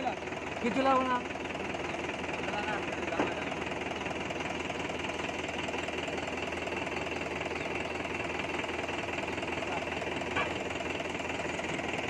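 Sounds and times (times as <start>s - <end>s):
tractor engine knocking: 0.0s - 12.0s.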